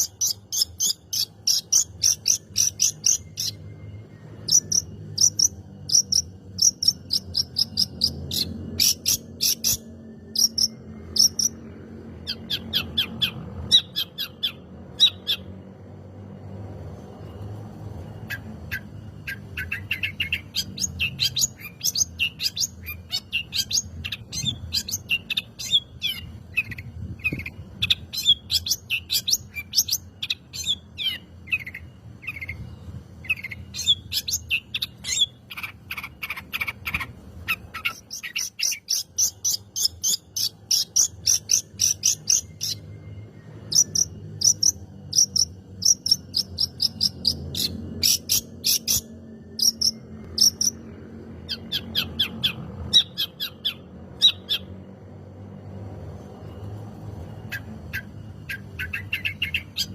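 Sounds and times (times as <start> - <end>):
bird singing chirps and chatters: 0.0 - 15.9, 18.1 - 55.1, 57.3 - 59.9.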